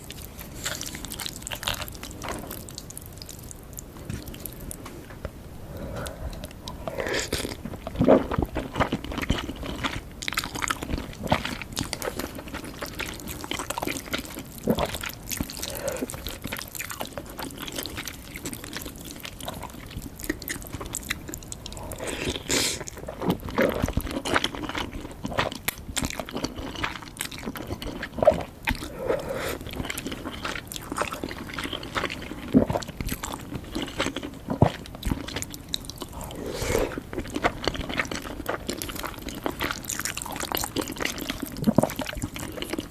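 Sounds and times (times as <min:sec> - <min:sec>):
person chewing food: 0:00.0 - 0:05.0, 0:05.7 - 0:42.9.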